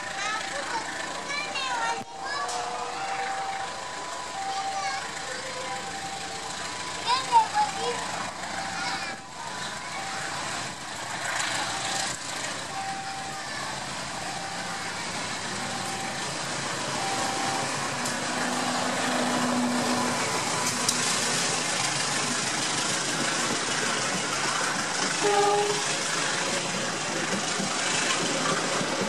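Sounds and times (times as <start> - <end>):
diesel locomotive engine passing: 0.0 - 29.0
train coaches rolling past: 0.0 - 29.0.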